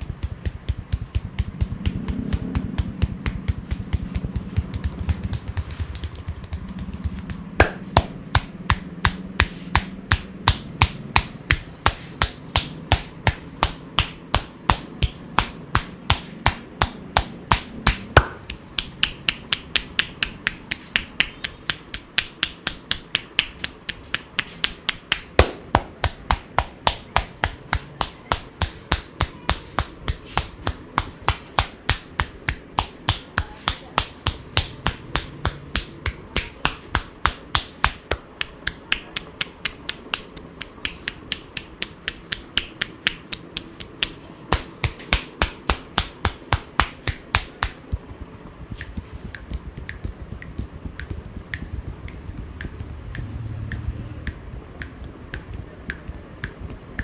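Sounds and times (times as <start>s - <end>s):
hands slapping body: 0.0s - 56.8s.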